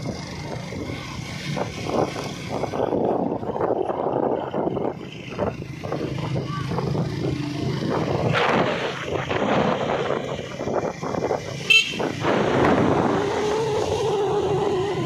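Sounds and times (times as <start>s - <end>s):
motorcycle engine running: 0.0s - 3.4s, 4.2s - 15.0s
road noise: 0.0s - 15.0s
wind noise: 0.0s - 15.0s.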